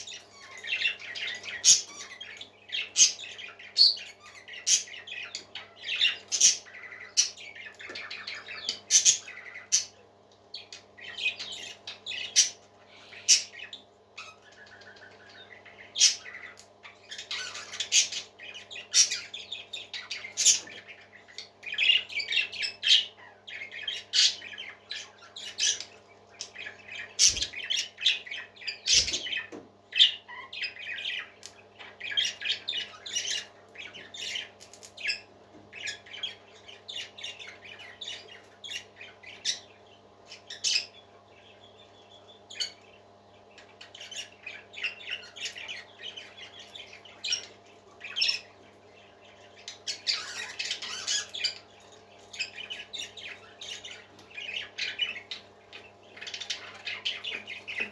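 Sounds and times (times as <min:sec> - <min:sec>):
parakeets chattering and squawking: 0:00.0 - 0:57.9.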